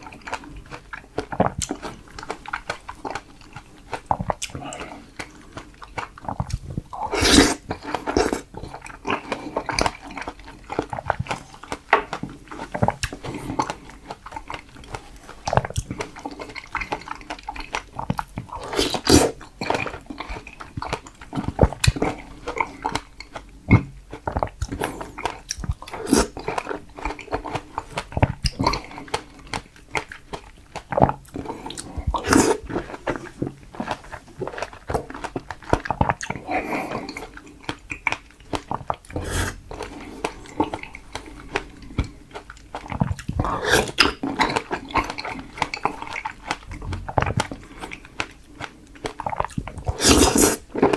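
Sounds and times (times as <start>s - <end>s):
chewing strawberries: 0.0s - 50.9s.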